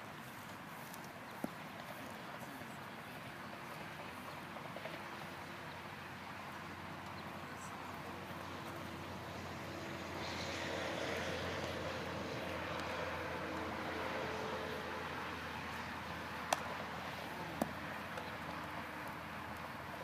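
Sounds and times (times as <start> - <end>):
distant engine drone: 1.4 - 20.0.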